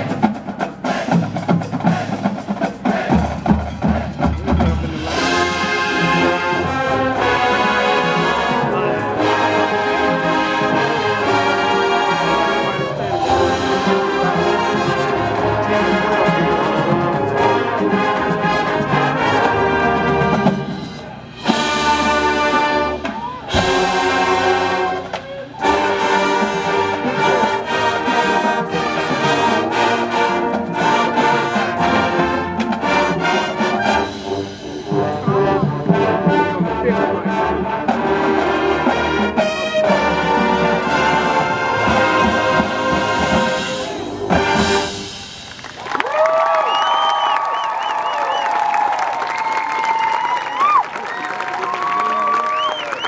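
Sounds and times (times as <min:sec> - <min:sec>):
marching band playing: 0:00.0 - 0:53.0.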